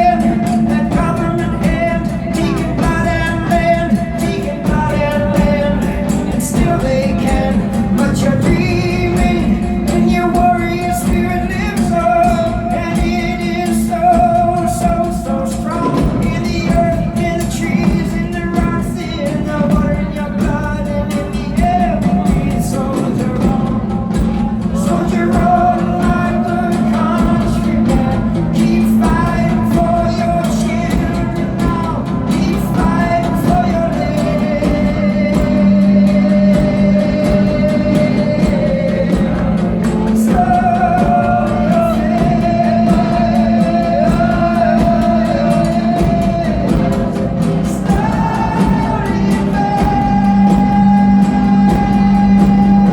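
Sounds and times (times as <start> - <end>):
guitar: 0.0 - 52.9
person singing long notes: 0.0 - 52.9.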